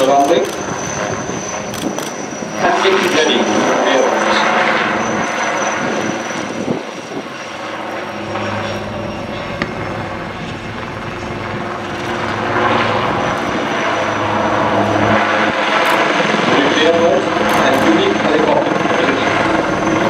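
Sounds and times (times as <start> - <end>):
helicopter flying past: 0.0 - 20.0.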